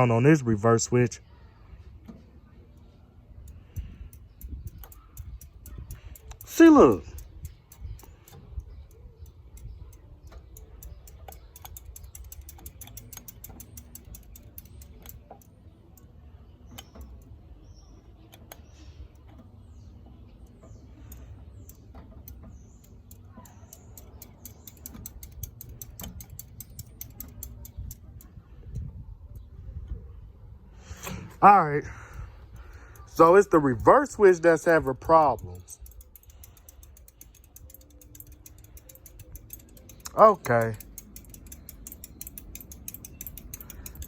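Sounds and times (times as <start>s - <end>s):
light irregular ticks and clicks: 2.0s - 29.5s, 31.8s - 44.0s.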